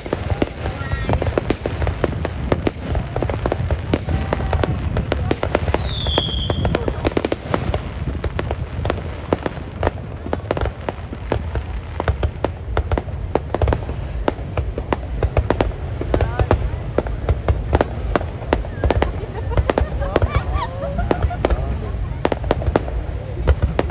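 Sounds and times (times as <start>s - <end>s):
fireworks cracks and bangs: 0.0s - 23.9s.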